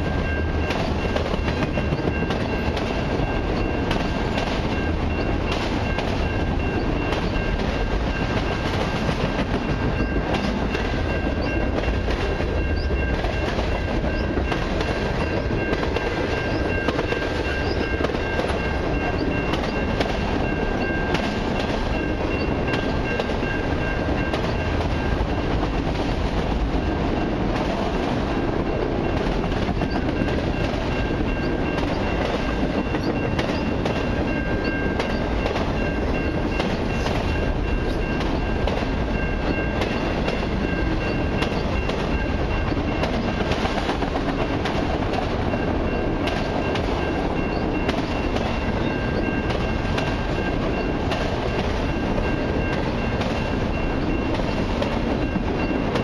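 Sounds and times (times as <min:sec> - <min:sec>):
steady high-pitched tone: 0:00.0 - 0:25.9, 0:26.8 - 0:56.0
steel wheels rumbling on rail: 0:00.0 - 0:56.0
wheels clicking and clacking: 0:00.0 - 0:56.0.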